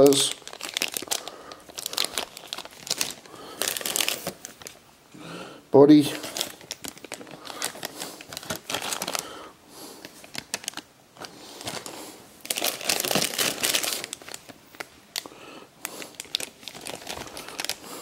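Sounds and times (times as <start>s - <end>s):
plastic bags crinkling: 0.0s - 4.8s, 6.0s - 18.0s.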